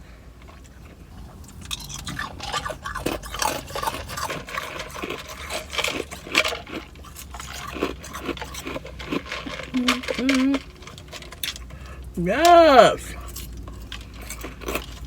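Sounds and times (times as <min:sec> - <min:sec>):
ice being chewed: 0:00.2 - 0:15.0.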